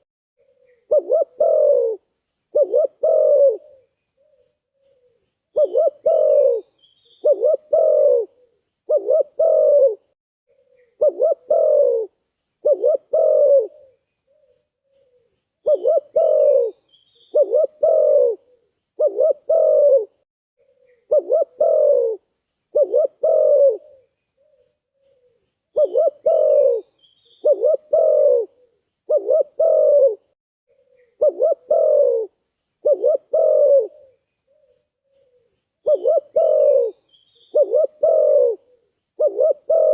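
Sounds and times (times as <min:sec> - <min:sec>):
small birds chirping: 0:00.4 - 0:30.1, 0:30.7 - 0:39.9
dove cooing: 0:00.4 - 0:39.9.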